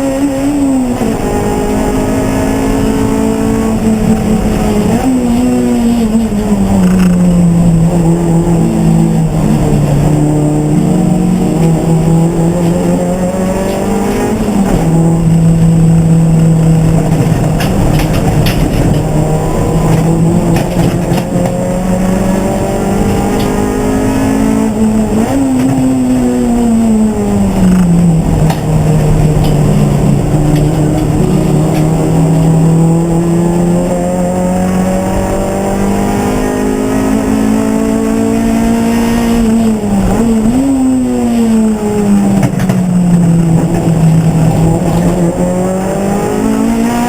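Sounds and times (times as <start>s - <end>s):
race car engine running hard: 0.0s - 47.0s.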